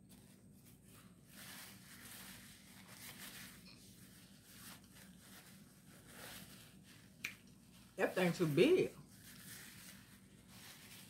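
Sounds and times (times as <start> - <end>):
paper napkin crinkling: 0.0 - 11.0.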